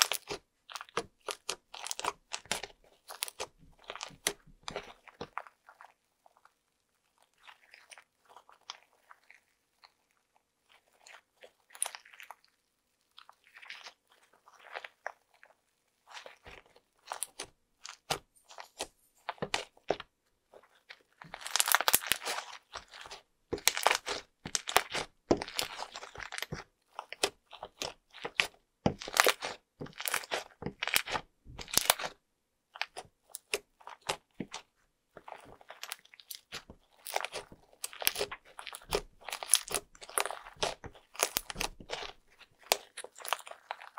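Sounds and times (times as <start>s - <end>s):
slime crackling and popping: 0.0s - 6.5s, 7.1s - 12.5s, 13.2s - 32.2s, 32.8s - 43.9s.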